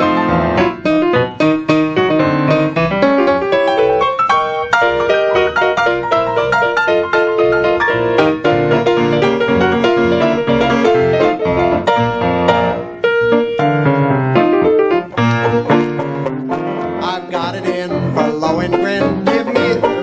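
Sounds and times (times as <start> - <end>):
ragtime piano playing: 0.0 - 20.0
band playing: 2.0 - 20.0.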